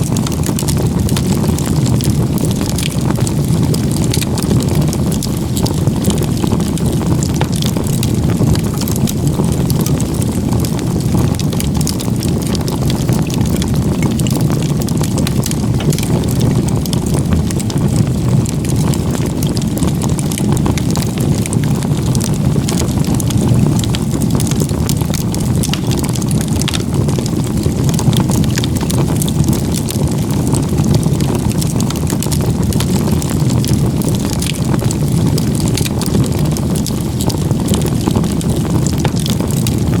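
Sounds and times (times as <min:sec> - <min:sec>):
fire crackling and popping: 0:00.0 - 0:40.0
low roar of flames: 0:00.0 - 0:40.0.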